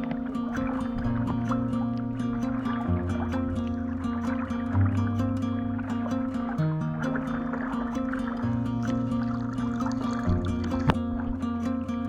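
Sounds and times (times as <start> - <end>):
music with sustained notes and bass: 0.0 - 12.0.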